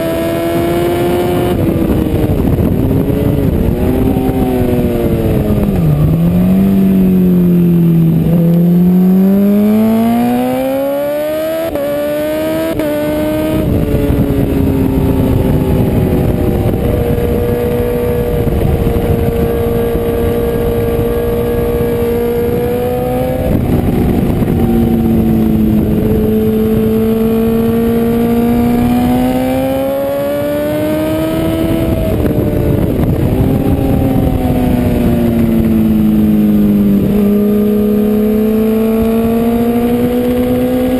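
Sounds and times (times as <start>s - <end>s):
motorcycle engine revving: 0.0s - 40.9s
wind noise: 0.0s - 40.9s.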